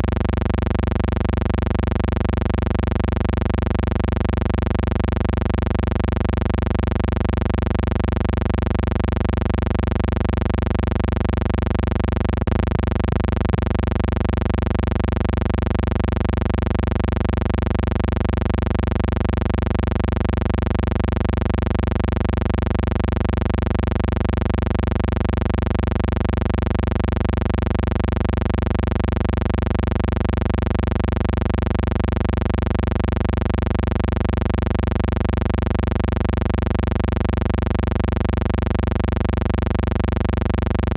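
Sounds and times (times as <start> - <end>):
low hum with overtones: 0.0 - 40.9.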